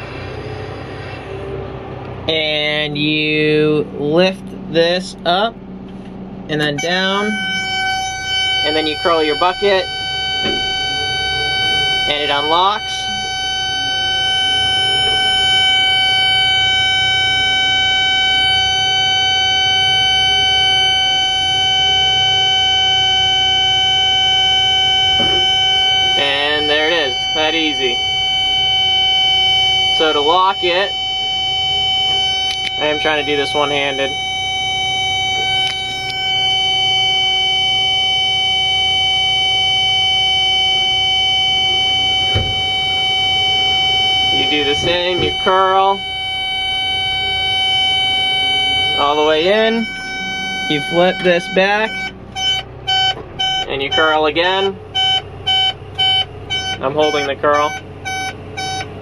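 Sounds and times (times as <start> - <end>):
steady high warning alarm tone: 0.0 - 5.8, 6.4 - 59.0
diesel engine running: 0.0 - 59.0.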